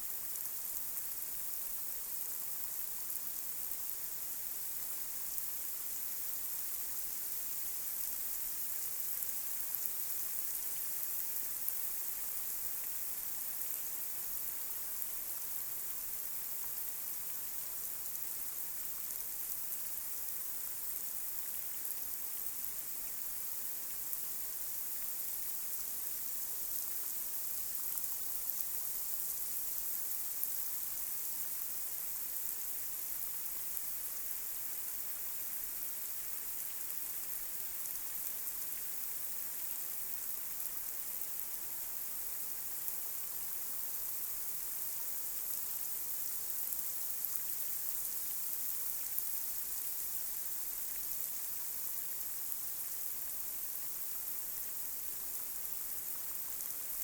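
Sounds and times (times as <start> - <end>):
light rain on a street: 0.0 - 57.0.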